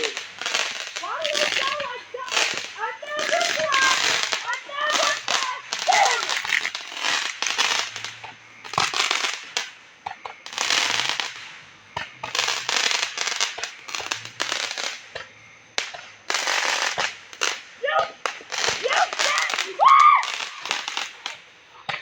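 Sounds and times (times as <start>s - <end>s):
fireworks crackling bursts: 0.0s - 22.0s.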